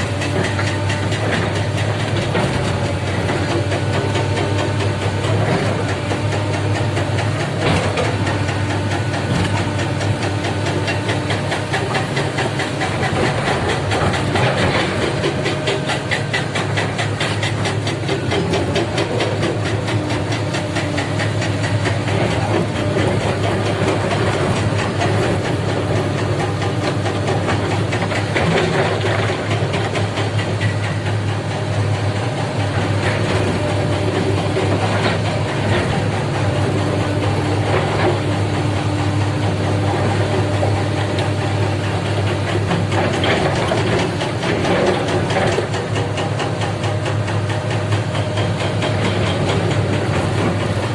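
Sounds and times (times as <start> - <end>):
excavator diesel engine running: 0.0 - 50.9
fast clatter: 0.0 - 50.9.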